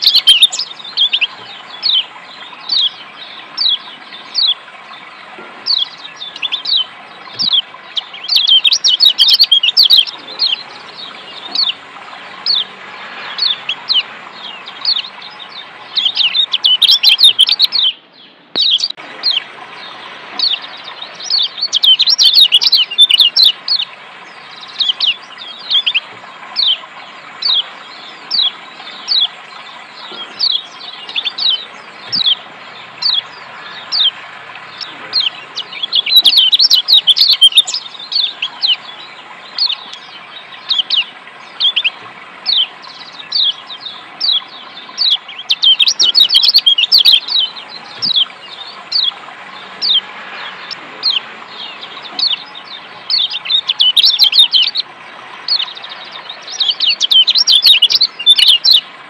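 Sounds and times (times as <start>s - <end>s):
birds chirping: 0.0s - 59.0s
running water hiss: 0.0s - 59.0s.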